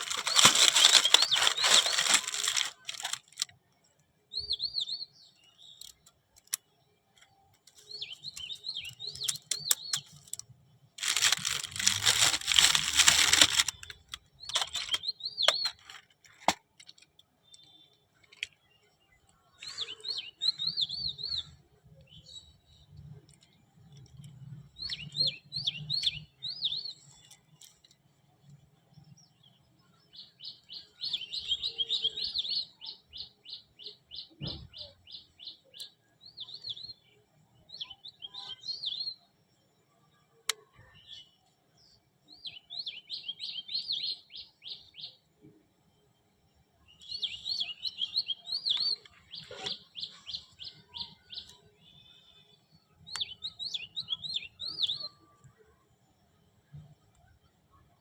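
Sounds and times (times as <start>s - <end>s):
bird chirping in trills: 0.0s - 16.5s, 17.4s - 27.5s, 29.1s - 39.4s, 40.7s - 45.3s, 46.8s - 55.7s.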